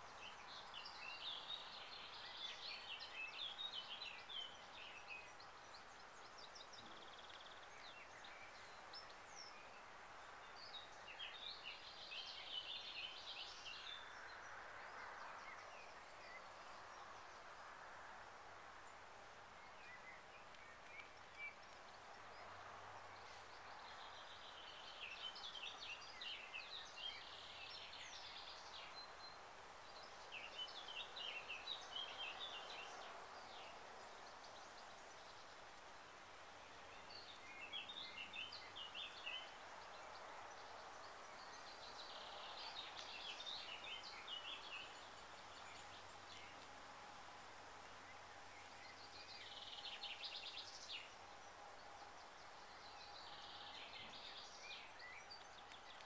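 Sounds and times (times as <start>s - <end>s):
outdoor background hiss: 0.0s - 56.0s
songbird chirping: 0.0s - 56.0s.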